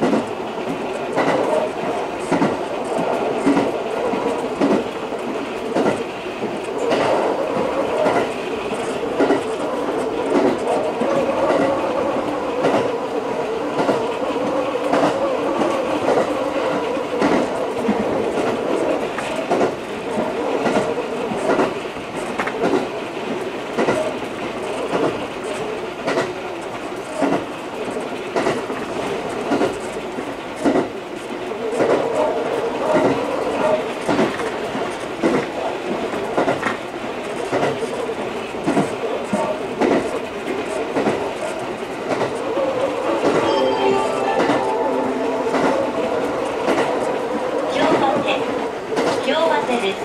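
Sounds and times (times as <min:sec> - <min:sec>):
train running noise: 0:00.0 - 0:50.0.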